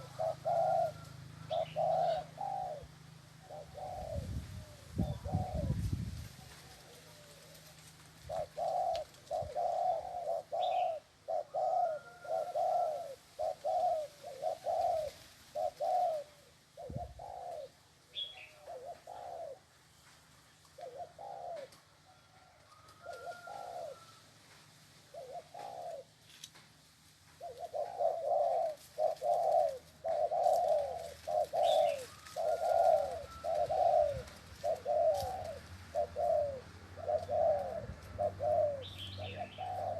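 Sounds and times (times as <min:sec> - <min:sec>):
dove cooing: 0:00.0 - 0:19.8, 0:20.6 - 0:26.4, 0:27.3 - 0:39.9.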